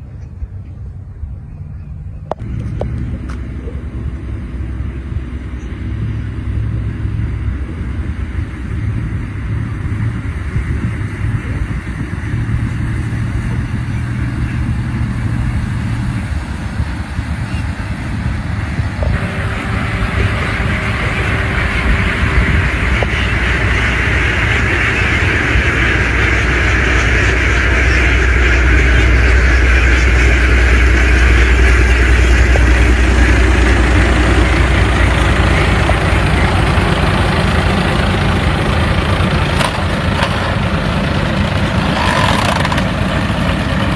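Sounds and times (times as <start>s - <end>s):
motor engine humming: 0.0s - 43.9s.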